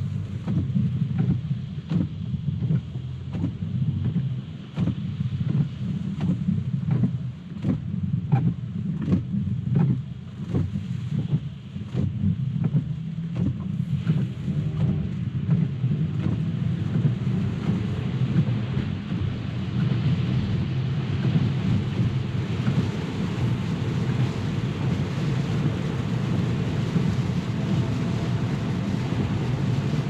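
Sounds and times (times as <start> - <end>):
hiss of spray and rain: 0.0 - 30.0
road and tyre rumble: 0.0 - 30.0.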